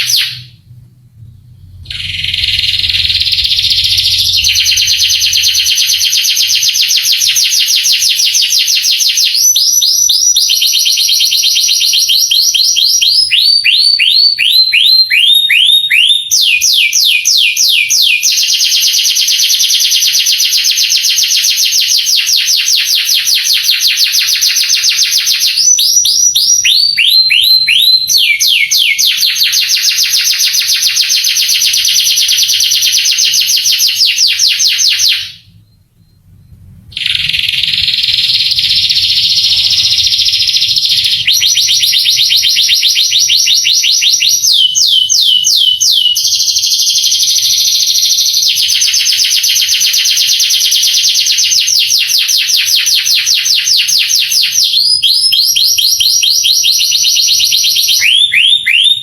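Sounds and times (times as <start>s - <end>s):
canary singing trills: 0.0s - 56.6s.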